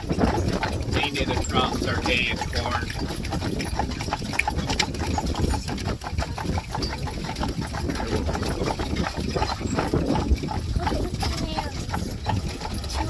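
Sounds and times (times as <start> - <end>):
buggy wheels rumbling: 0.0 - 13.0
horse hooves clip-clopping on road: 0.0 - 13.0.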